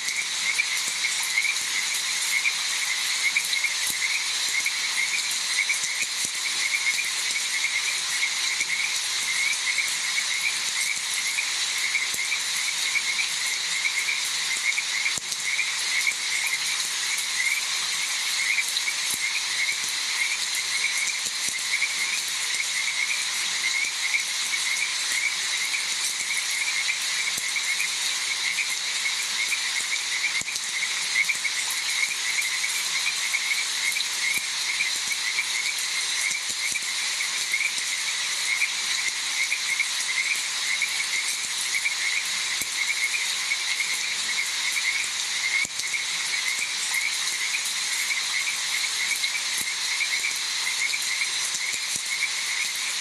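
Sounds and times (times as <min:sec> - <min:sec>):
chorus of frogs calling: 0:00.0 - 0:53.0
rain hiss: 0:00.0 - 0:53.0.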